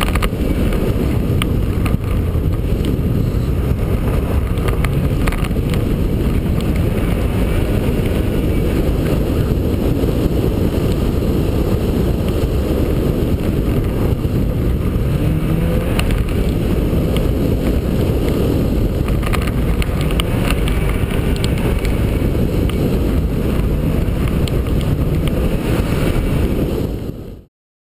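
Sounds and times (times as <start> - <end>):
car engine and tyres on gravel: 0.0 - 27.5.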